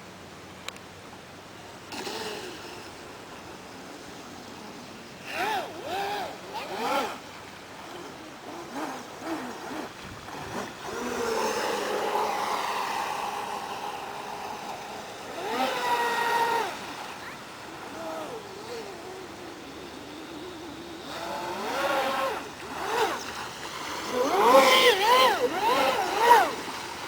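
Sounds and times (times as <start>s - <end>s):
electric motor whining: 5.2s - 27.0s.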